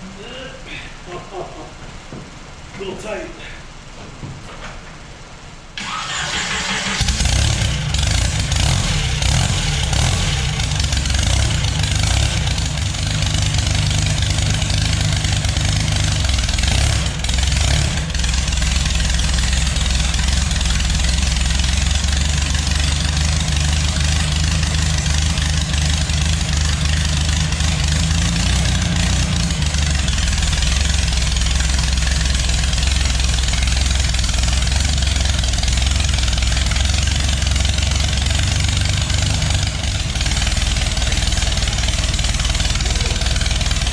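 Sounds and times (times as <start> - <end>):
engine idling through open exhaust: 5.8 - 43.9.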